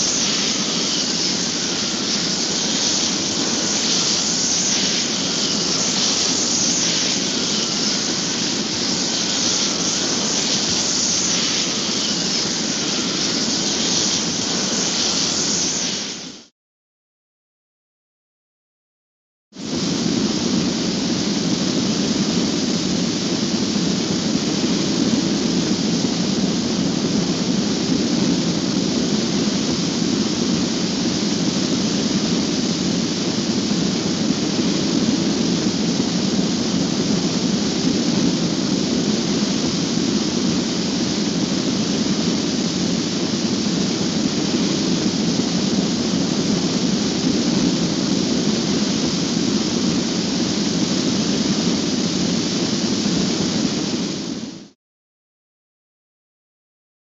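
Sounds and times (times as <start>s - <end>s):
steady rushing noise: 0.0s - 16.5s, 19.6s - 54.8s.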